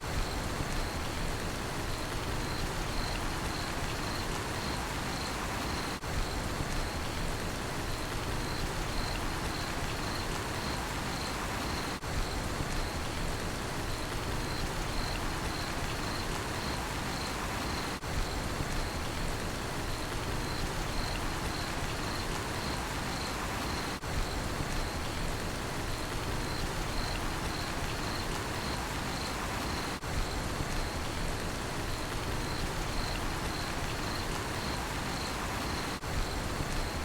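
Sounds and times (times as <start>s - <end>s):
steady rainfall: 0.0s - 37.0s
crickets chirping: 1.8s - 7.2s, 7.8s - 13.2s, 13.8s - 25.2s, 25.9s - 37.0s.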